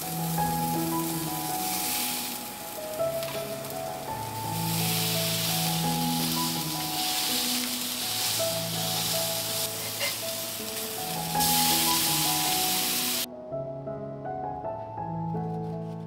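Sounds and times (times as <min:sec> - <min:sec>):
burger patty sizzling in skillet: 0:00.0 - 0:13.3
background keyboard music: 0:00.0 - 0:16.0.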